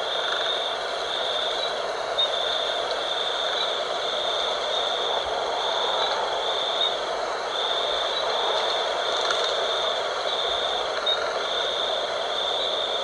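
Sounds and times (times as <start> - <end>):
wind blowing: 0.0 - 13.0.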